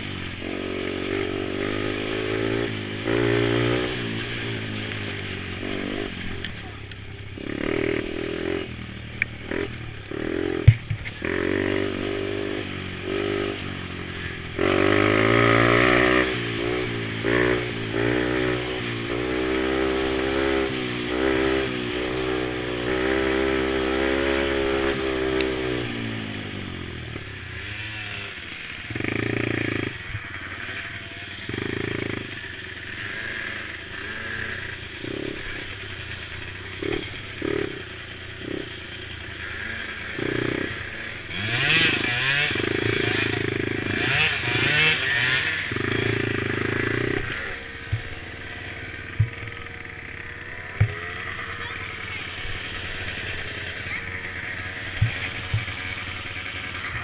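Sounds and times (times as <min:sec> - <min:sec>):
mini quad engines revving: 0:00.0 - 0:57.0.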